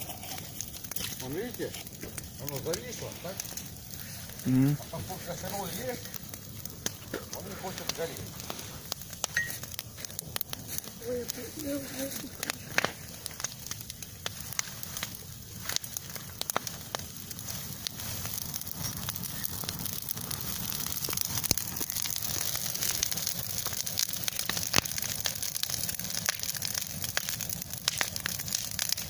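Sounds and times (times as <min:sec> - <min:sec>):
steady hiss: 0:00.0 - 0:25.2
campfire crackling and popping: 0:00.0 - 0:29.0.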